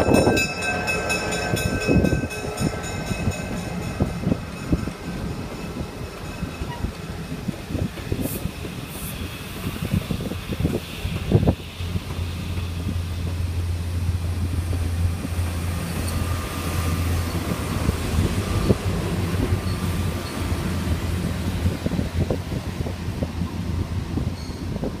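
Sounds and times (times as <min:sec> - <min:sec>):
diesel locomotive droning: 0:00.0 - 0:25.0.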